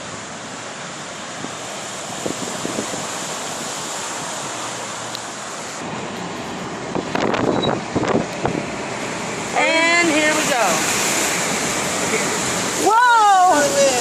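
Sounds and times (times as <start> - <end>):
truck ploughing through floodwater: 0.0 - 14.0.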